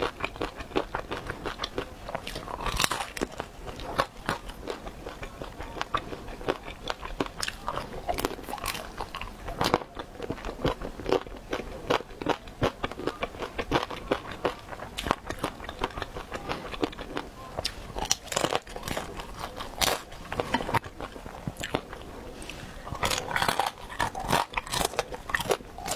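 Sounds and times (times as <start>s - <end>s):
crunchy chewing: 0.0s - 25.9s.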